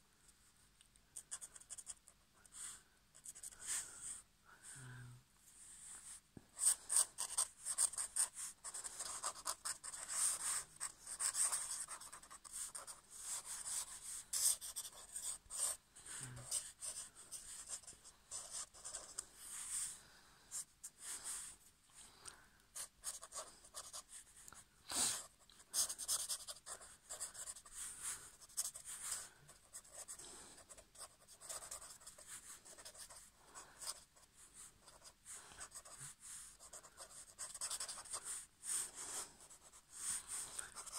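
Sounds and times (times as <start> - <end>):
marker pen scratching on paper: 1.2 - 4.2, 5.9 - 21.6, 22.8 - 40.9.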